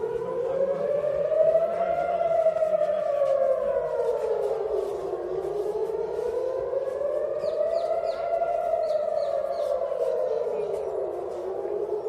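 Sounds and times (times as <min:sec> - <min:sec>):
air-raid siren wailing: 0:00.0 - 0:12.0.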